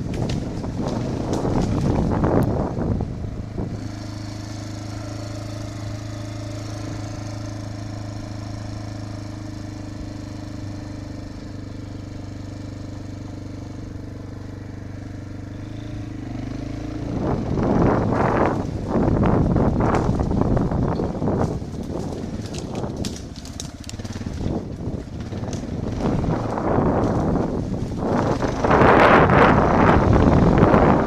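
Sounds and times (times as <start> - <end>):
wind buffeting microphone: 0.0 - 12.0, 13.4 - 31.0
motorcycle engine idling: 0.0 - 31.0.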